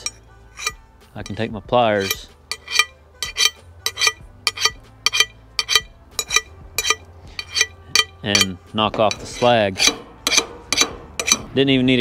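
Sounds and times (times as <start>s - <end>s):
pliers clinking on steel: 0.0s - 1.4s, 2.0s - 11.5s.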